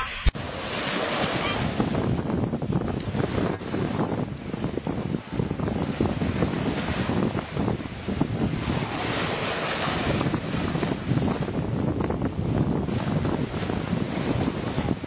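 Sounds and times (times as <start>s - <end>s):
wind buffeting microphone: 0.3s - 15.0s.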